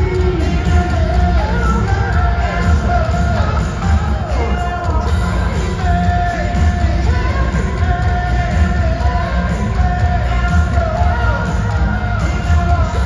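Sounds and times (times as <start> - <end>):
hard rock band playing: 0.0 - 13.0
man singing long held notes: 0.0 - 13.0.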